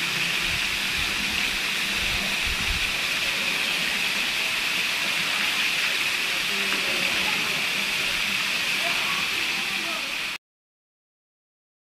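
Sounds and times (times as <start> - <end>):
fountain water splashing into pool: 0.0 - 10.4.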